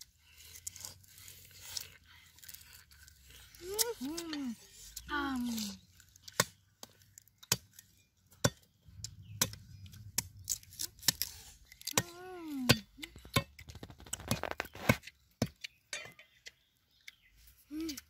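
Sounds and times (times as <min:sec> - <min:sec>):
sugarcane crunching and tearing: 0:00.0 - 0:18.0.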